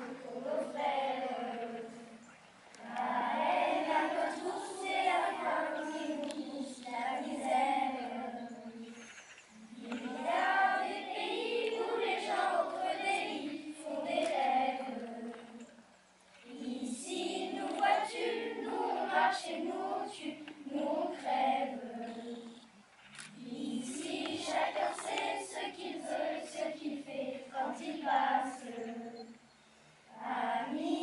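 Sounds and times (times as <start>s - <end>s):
children singing together: 0.0s - 2.2s, 2.8s - 9.0s, 9.6s - 15.8s, 16.4s - 22.7s, 23.4s - 29.4s, 30.1s - 31.0s.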